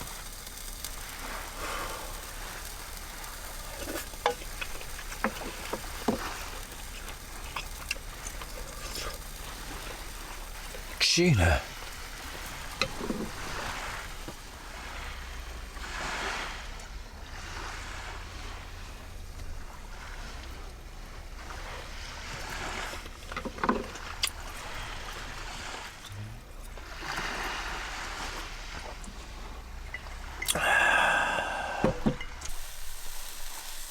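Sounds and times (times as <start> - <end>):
sea waves washing onto beach: 0.0 - 33.9.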